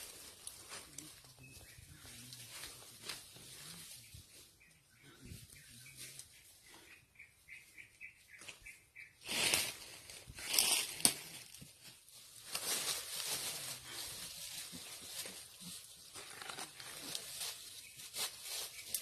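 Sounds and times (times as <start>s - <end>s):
dry leaves rustling and crackling: 0.0s - 6.8s, 9.2s - 19.0s.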